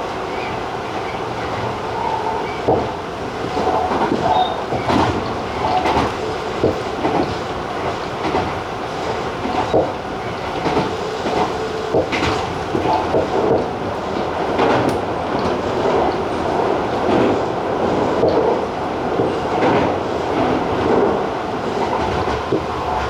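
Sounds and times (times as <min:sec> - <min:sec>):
train wheels rumbling on rail: 0:00.0 - 0:23.0
wheels clicking over rail joints: 0:02.6 - 0:23.0.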